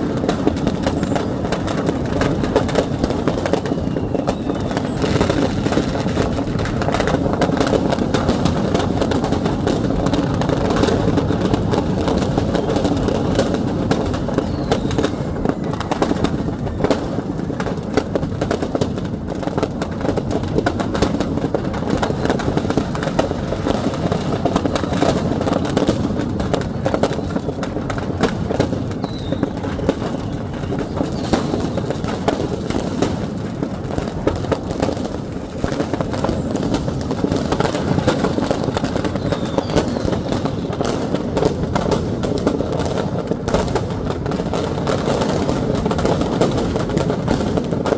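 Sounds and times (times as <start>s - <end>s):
dense fire rumble: 0.0s - 47.9s
firecrackers crackling: 0.0s - 47.9s.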